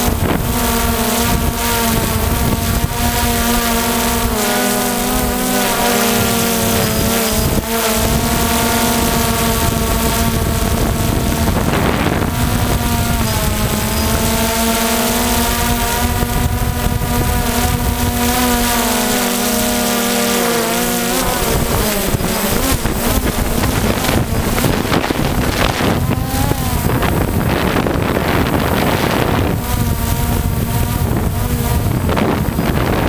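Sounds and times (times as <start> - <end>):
drone motors whining: 0.0 - 33.0
wind rushing over microphone: 0.0 - 33.0.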